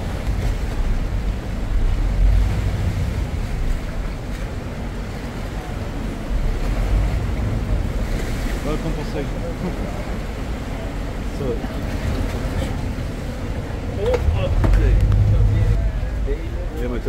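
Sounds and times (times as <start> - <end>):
wind buffeting microphone: 0.0 - 8.8, 12.0 - 17.0
boat engine rumble: 0.0 - 17.0
water wash: 0.0 - 17.0.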